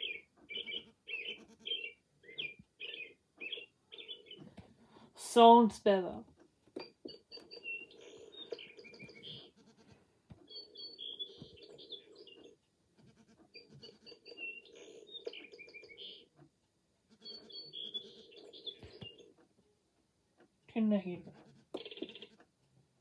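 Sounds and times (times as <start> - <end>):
recorded birdsong from small speaker: 0.0 - 4.9, 6.8 - 9.6, 10.3 - 16.5, 17.1 - 19.7, 20.7 - 22.8.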